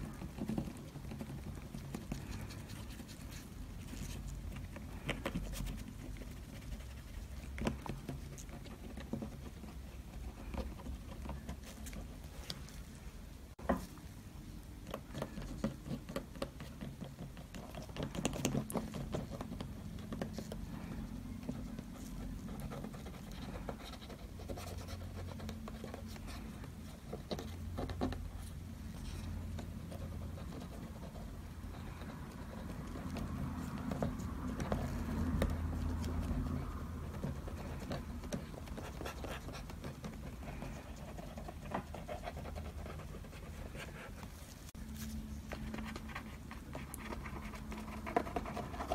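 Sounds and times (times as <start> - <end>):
small taps and scratches: 0.0 - 13.0, 14.6 - 48.9.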